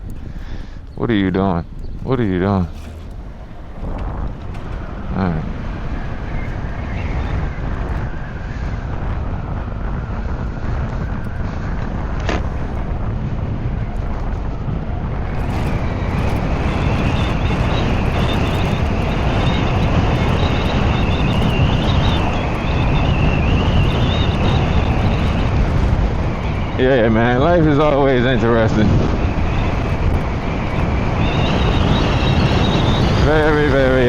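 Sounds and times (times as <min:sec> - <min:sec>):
high steady electric whine: 0:00.0 - 0:34.0
wind buffeting microphone: 0:00.0 - 0:34.0.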